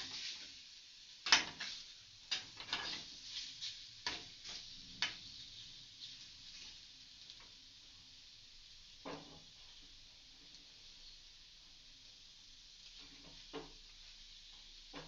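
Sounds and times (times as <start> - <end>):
bacon sizzling in a pan: 0.0 - 15.0.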